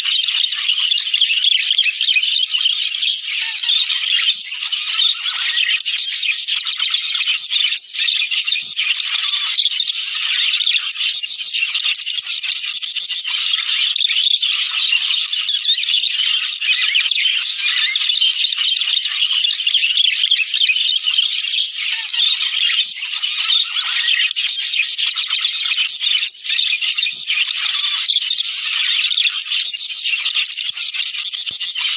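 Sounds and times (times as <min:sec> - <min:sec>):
budgerigars chattering and warbling: 0:00.0 - 0:31.9.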